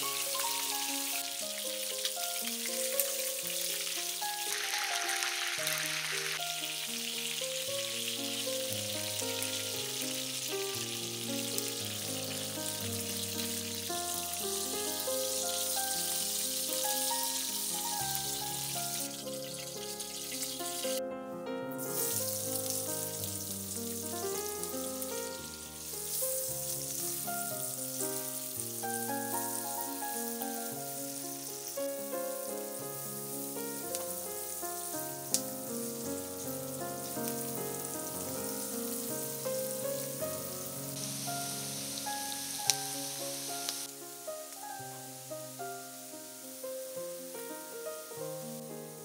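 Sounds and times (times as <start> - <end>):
chicken sizzling in oil: 0.0 - 21.0, 21.8 - 49.0
onions frying: 0.0 - 21.0, 21.7 - 49.0
background music: 0.0 - 49.0.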